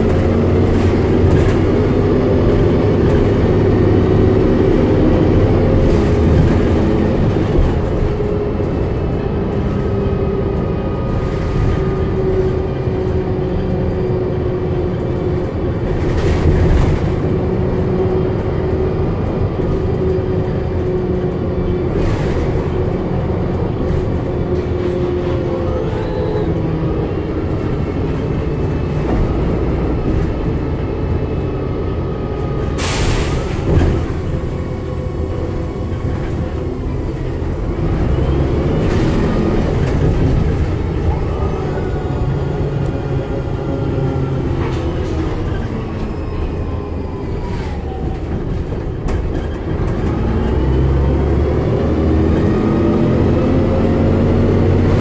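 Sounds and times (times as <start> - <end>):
bus engine rumble and whine: 0.0 - 55.0.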